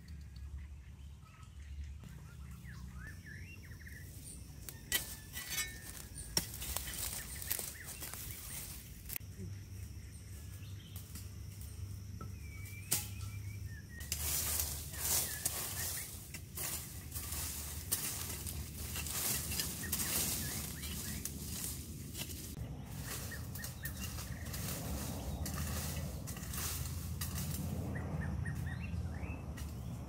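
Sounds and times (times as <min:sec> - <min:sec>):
dry leaves crunching underfoot: 0:02.1 - 0:09.3, 0:09.9 - 0:30.0.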